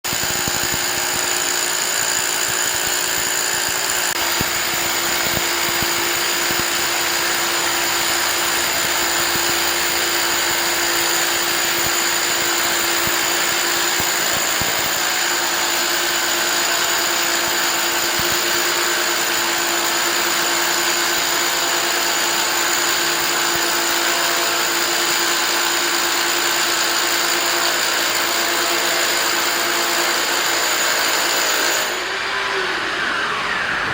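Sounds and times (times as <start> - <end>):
hammer drill boring into concrete: 0.0 - 33.9.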